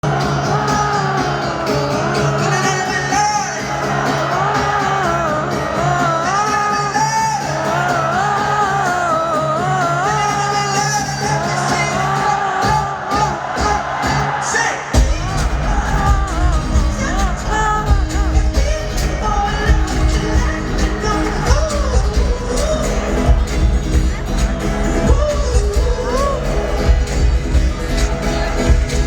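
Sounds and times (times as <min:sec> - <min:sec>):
song with singing voice: 0:00.0 - 0:29.0.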